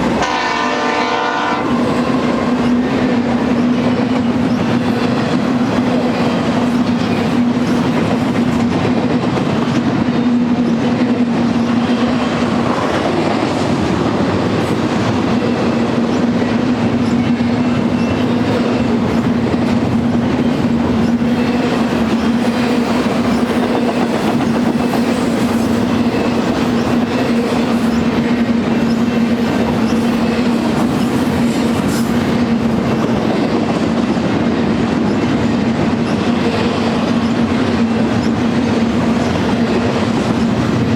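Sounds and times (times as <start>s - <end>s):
clickety-clack of wheels on rail: 0.0s - 40.9s
freight train cars rolling: 0.0s - 40.9s.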